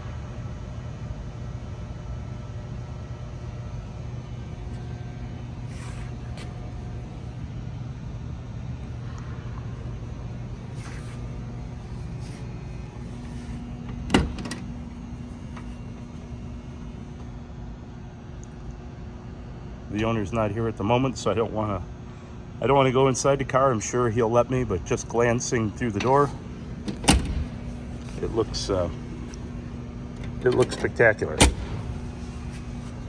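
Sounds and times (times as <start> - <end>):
low hum of indoor hall: 0.0 - 33.0.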